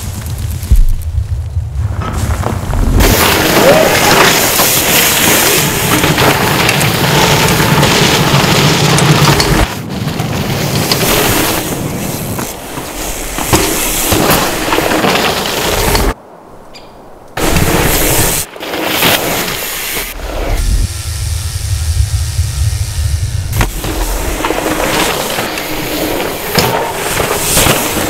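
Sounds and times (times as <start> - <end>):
bike tyres rushing over dirt: 0.0 - 16.4, 17.3 - 28.0.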